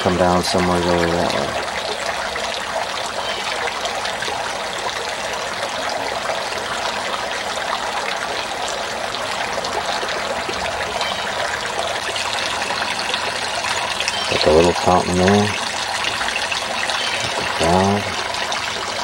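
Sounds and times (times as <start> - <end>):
fountain water trickling: 0.0 - 19.0.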